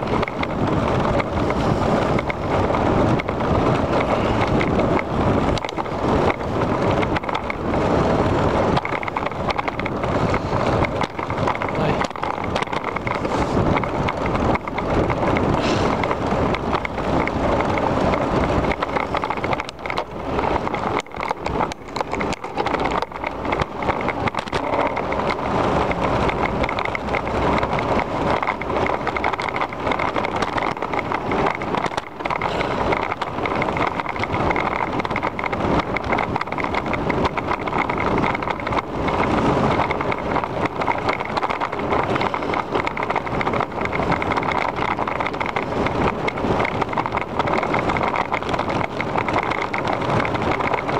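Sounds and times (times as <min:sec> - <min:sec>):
bicycle rattling over pavement: 0:00.0 - 0:50.9
wind rush on microphone: 0:00.0 - 0:50.9.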